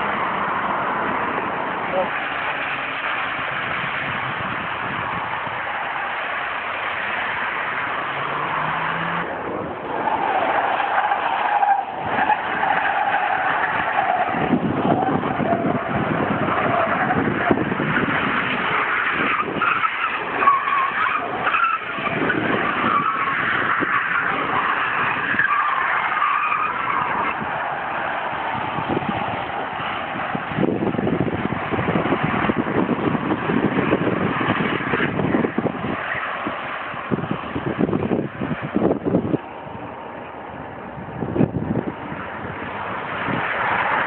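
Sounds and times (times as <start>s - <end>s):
tyre noise and spray on wet road: 0.0s - 44.0s.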